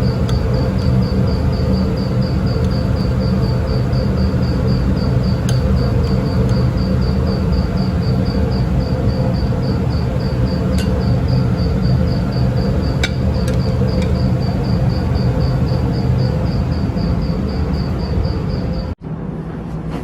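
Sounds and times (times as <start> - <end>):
low machinery hum: 0.0 - 20.0.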